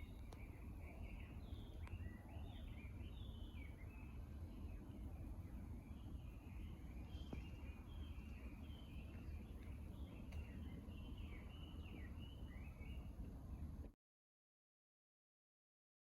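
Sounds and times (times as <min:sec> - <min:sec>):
small birds chirping: 0:00.0 - 0:13.8
low steady rumble: 0:00.0 - 0:13.9.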